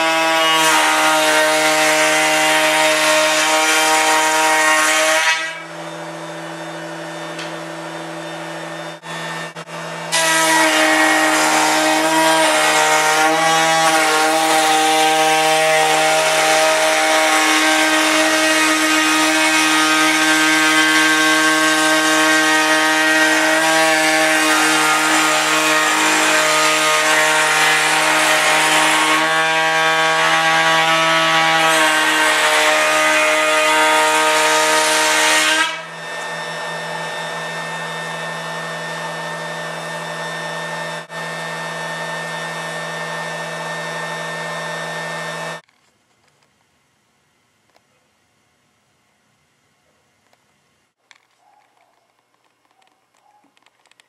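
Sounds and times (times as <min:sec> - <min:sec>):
power tool cutting wood: 0:00.0 - 0:45.6.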